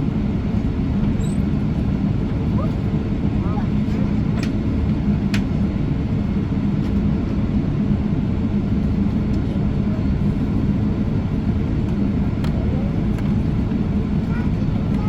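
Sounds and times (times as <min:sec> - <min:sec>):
airplane cabin engine hum: 0:00.0 - 0:15.0.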